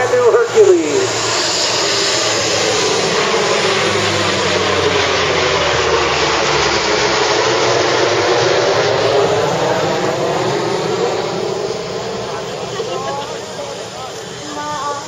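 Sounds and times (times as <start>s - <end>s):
turboprop aircraft drone: 0.0s - 15.0s.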